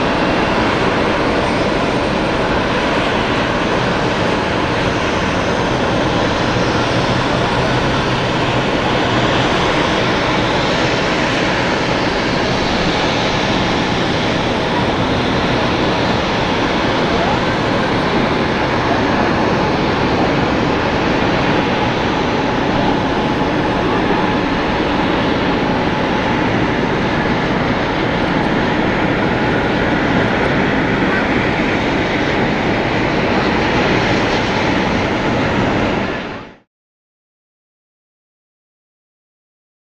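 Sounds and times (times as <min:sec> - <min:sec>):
jet engines running: 0:00.0 - 0:36.7.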